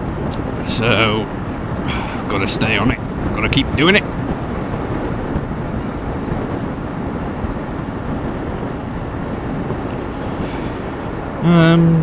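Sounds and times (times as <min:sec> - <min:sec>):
vehicle engine and road rumble: 0:00.0 - 0:12.0
wind rushing over microphone: 0:00.0 - 0:12.0.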